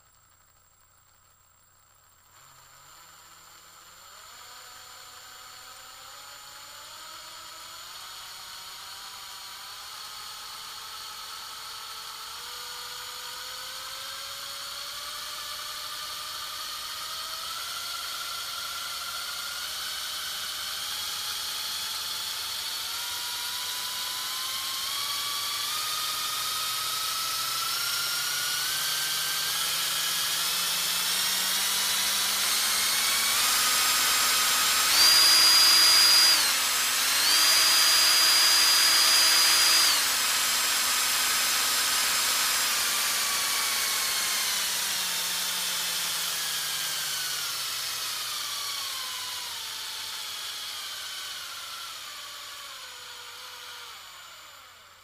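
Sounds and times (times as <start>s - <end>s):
power drill whine: 0.0s - 55.0s.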